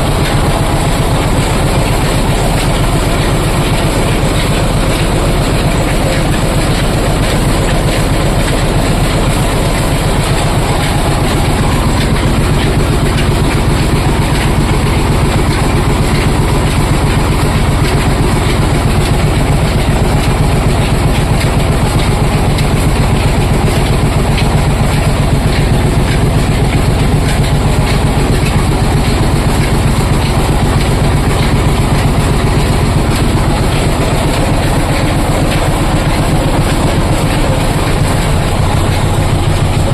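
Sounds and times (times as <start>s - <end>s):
oil expeller machine rumbling: 0.0s - 39.9s.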